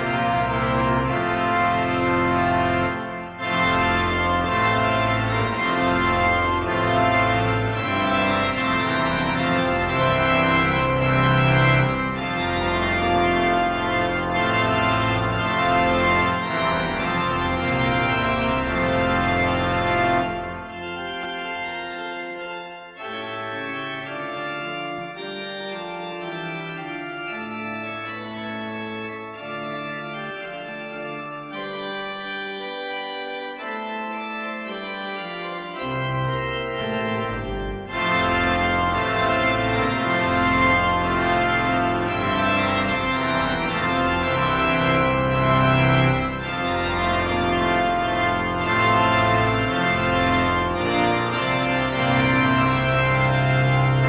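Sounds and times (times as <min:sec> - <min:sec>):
pipe organ playing chords: 0:00.0 - 0:54.0.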